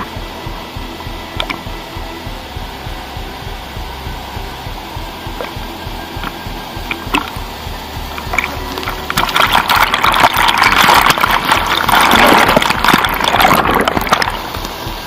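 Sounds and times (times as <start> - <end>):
water splashing and churning: 0.0 - 15.0.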